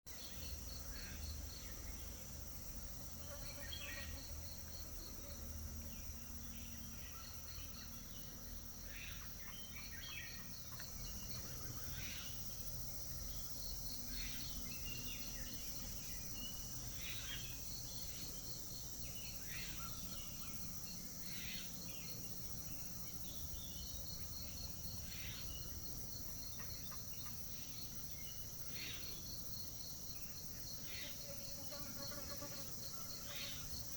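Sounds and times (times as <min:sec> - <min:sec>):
cricket chirps: 0:00.1 - 0:33.9
high-pitched insect hum: 0:00.1 - 0:33.9.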